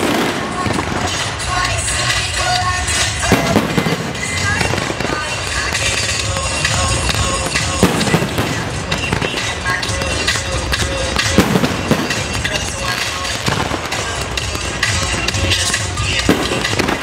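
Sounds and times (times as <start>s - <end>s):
fireworks crackling and popping: 0.0s - 17.0s
loud music: 0.0s - 17.0s.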